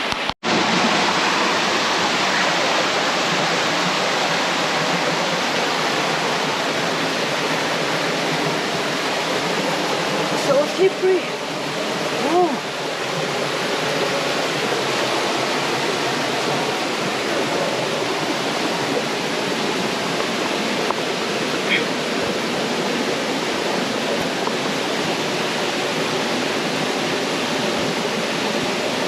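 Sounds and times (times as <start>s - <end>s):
water splashing over rocks: 0.0s - 29.0s.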